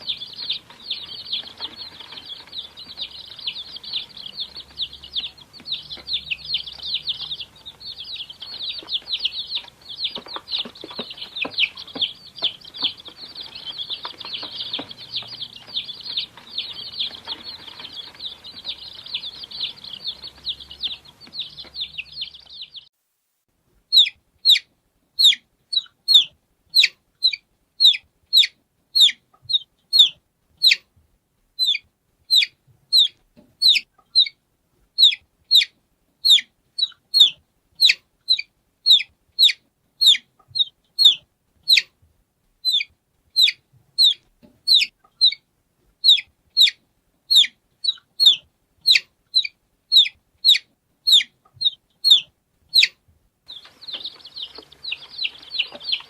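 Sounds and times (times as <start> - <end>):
lone chick peeping loudly: 0.0 - 22.9, 23.8 - 31.0, 31.6 - 42.0, 42.6 - 56.0
many chicks cheeping: 0.0 - 22.9, 23.9 - 30.8, 31.6 - 34.4, 35.0 - 41.9, 42.6 - 45.4, 46.0 - 56.0.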